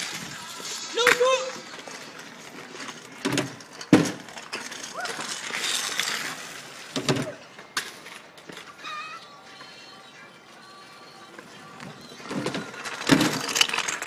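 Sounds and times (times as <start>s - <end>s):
scooter wheels rolling on tarmac: 0.0s - 14.0s.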